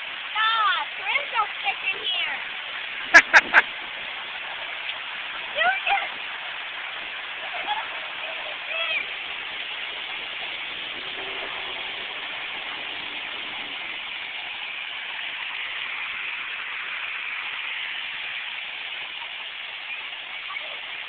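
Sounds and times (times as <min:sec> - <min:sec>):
fountain spraying water: 0:00.0 - 0:21.0.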